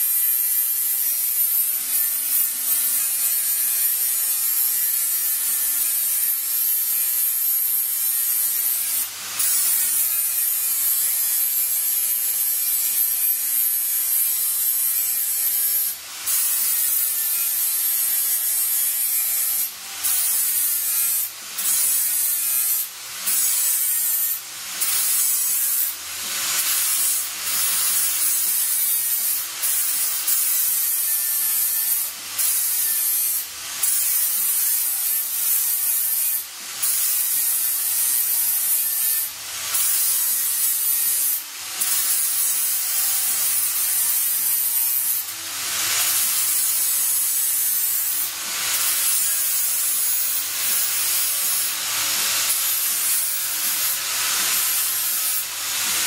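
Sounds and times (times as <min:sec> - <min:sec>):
power tool whining on steel: 0:00.0 - 0:56.0.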